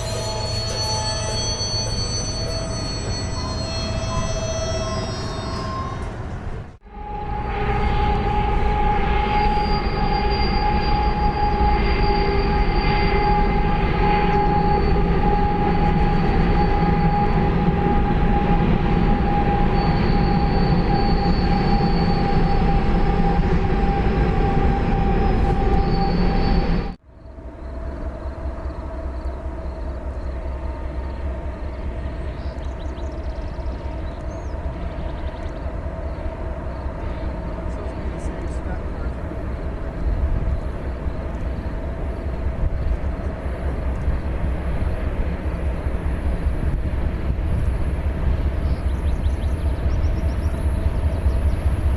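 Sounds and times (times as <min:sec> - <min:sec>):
freight train cars rolling on rails: 0:00.0 - 0:51.9
quieter passing train: 0:00.0 - 0:51.9
wheels squealing: 0:00.0 - 0:51.9.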